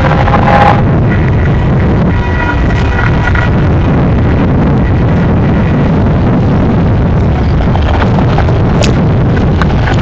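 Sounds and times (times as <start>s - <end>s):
diesel locomotives rumbling: 0.0s - 10.0s
wind noise on microphone: 0.0s - 10.0s.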